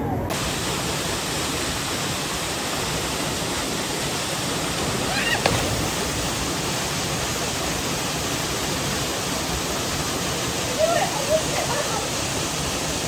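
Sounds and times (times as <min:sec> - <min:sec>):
waterfall pouring: 0:00.3 - 0:13.0.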